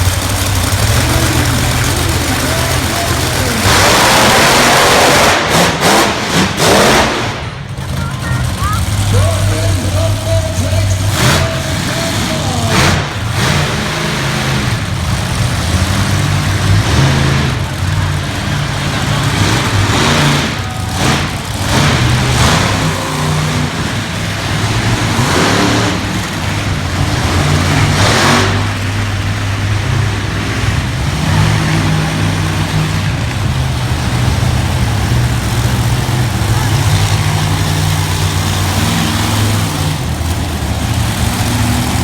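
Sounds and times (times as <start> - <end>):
monster truck engines revving: 0.0 - 42.0.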